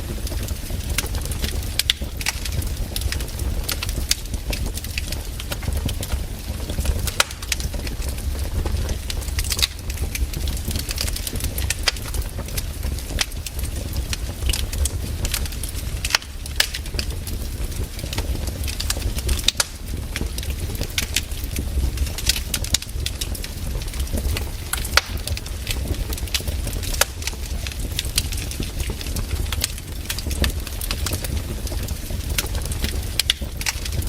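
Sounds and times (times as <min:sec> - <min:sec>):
firewood crackling and popping: 0:00.0 - 0:34.0
low rumble of flames: 0:00.0 - 0:34.0.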